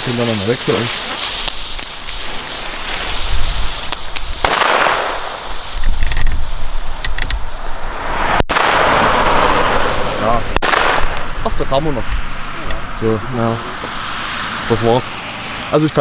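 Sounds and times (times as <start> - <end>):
firecrackers banging: 0.0 - 7.4, 8.0 - 14.6.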